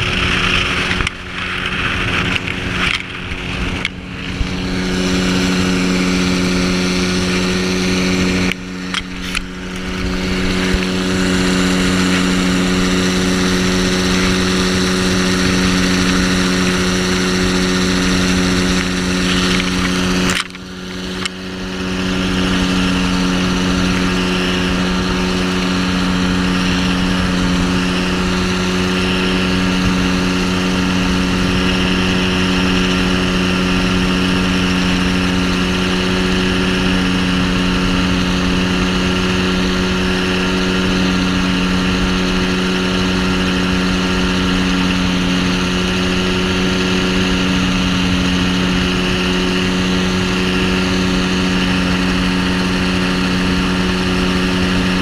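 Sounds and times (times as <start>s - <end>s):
aircraft engine droning: 0.0s - 55.0s
wind noise on microphone: 0.0s - 55.0s.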